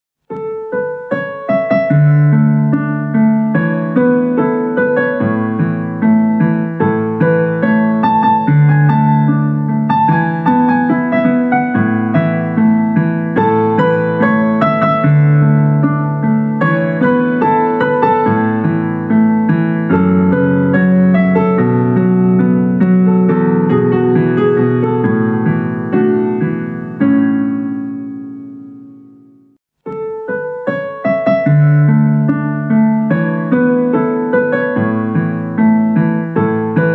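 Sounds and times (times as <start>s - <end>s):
piano music: 0.2s - 36.9s.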